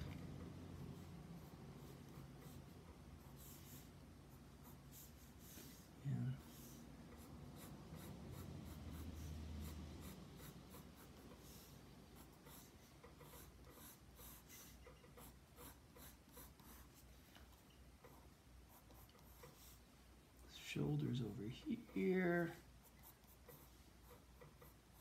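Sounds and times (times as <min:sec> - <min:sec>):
pencil scratching on paper: 0:00.2 - 0:17.2, 0:18.0 - 0:19.8, 0:21.6 - 0:25.0.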